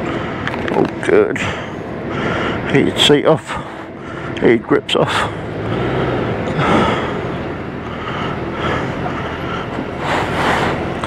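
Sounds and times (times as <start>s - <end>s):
motorcycle engines idling: 0.0s - 11.0s.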